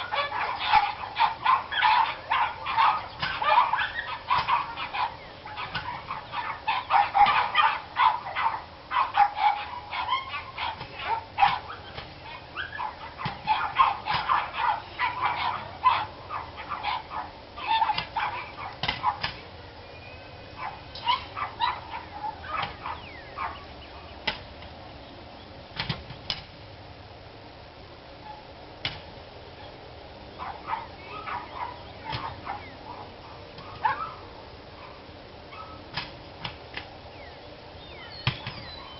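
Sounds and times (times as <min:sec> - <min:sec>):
dogs barking: 0:00.0 - 0:19.5, 0:20.5 - 0:24.5, 0:28.2 - 0:28.5, 0:29.6 - 0:37.2.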